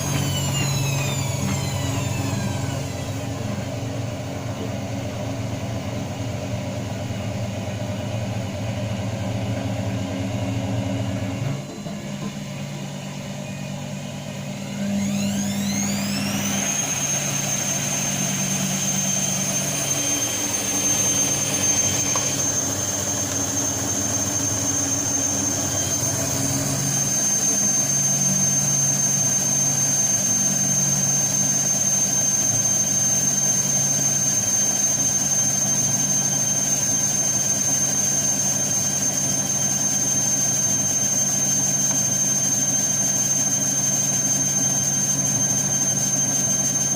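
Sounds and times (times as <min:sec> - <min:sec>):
washing machine motor whine: 0:00.0 - 0:46.9.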